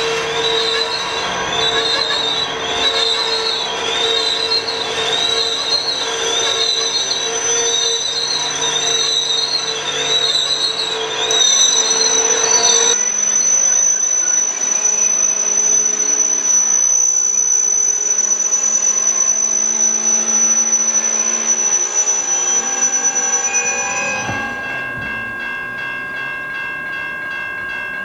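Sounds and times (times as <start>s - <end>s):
steady ringing tones: 0.0s - 28.0s
train wheels squealing on rails: 0.0s - 28.0s.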